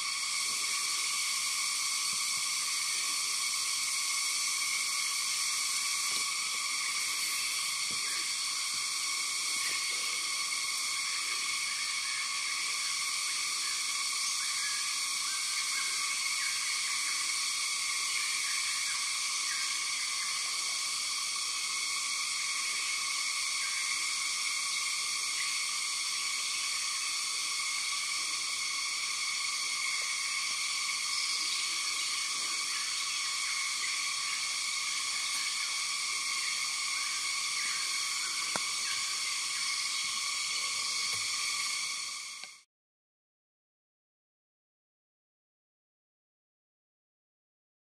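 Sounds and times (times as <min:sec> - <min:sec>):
cicada chorus drone: 0:00.0 - 0:42.7.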